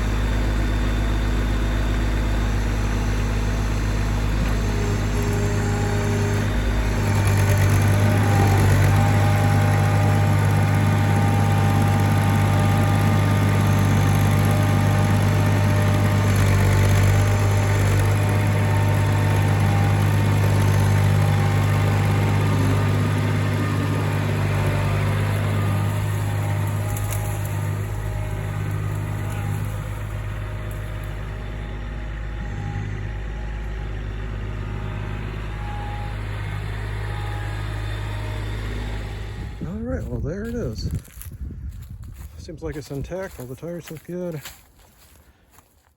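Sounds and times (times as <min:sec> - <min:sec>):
vehicle engine humming: 0:00.0 - 0:45.9.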